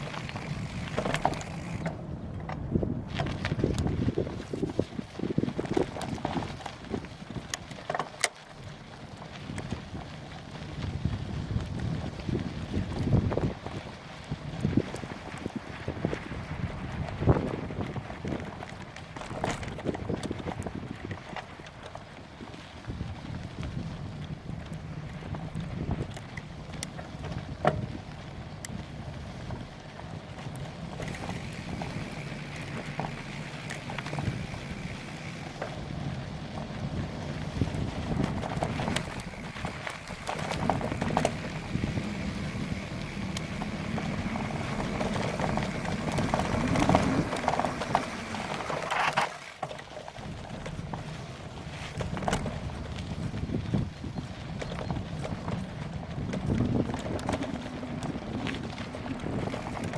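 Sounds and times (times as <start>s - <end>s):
bike rattles and clicks: 0.0s - 59.9s
wind buffeting microphone: 0.0s - 59.9s.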